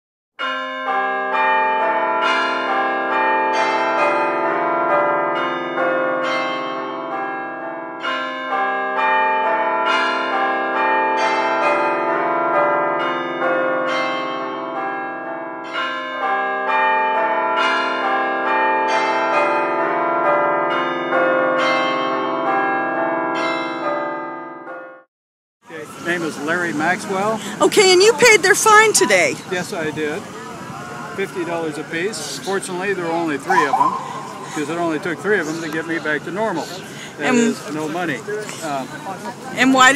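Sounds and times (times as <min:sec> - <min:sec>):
peal of bells ringing: 0:00.4 - 0:24.9, 0:26.0 - 0:29.6, 0:31.5 - 0:39.9.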